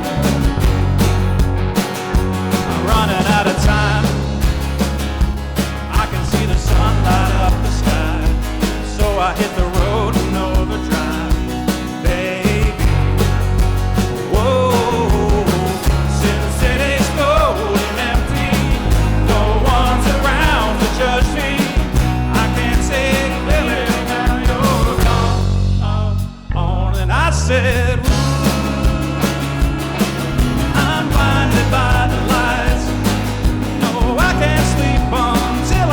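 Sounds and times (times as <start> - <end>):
live rock band playing: 0.0 - 26.5, 27.8 - 35.9
person singing: 2.7 - 4.4, 5.9 - 13.3, 14.2 - 35.9.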